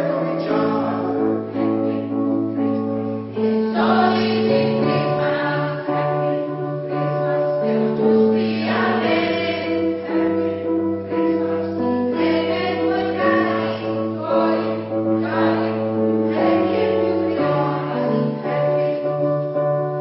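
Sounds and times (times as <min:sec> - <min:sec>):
choir singing in harmony: 0:00.0 - 0:19.8.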